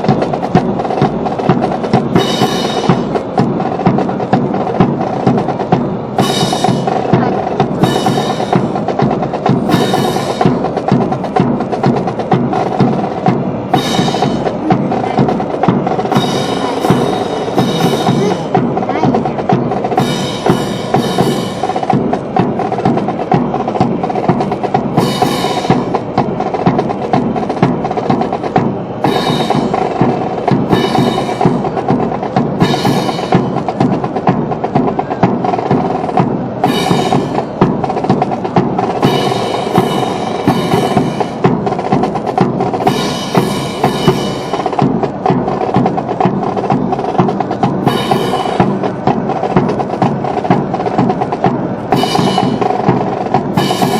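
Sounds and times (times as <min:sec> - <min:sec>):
marching drum cadence: 0:00.0 - 0:53.9
music: 0:00.0 - 0:53.9.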